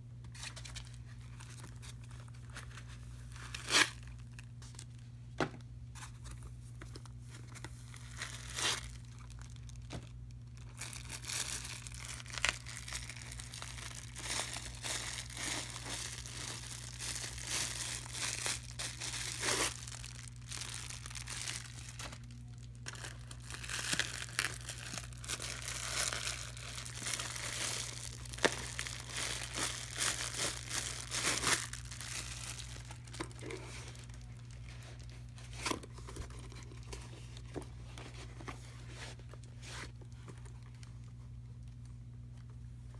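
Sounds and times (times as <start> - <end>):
low steady hum: 0.0 - 42.9
plastic bag and foam crinkling: 0.4 - 5.1, 5.9 - 42.5.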